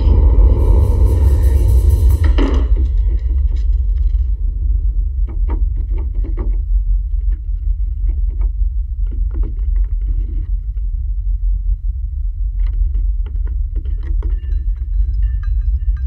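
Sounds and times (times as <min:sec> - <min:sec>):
rattles and knocks: 0:00.0 - 0:10.9, 0:12.6 - 0:16.0
deep steady rumble: 0:00.0 - 0:16.0.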